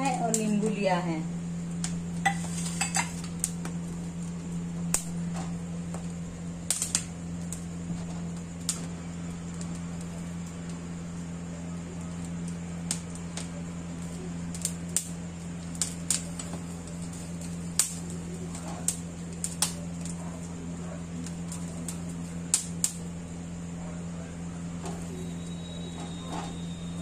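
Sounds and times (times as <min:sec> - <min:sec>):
corn kernels popping and crackling: 0:00.0 - 0:27.0
low gas burner hum: 0:00.0 - 0:27.0.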